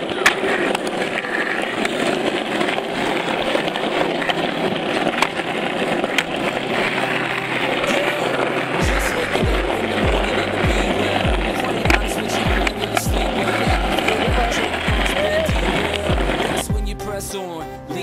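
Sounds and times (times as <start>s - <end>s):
skateboard wheels rolling on asphalt: 0.0s - 17.3s.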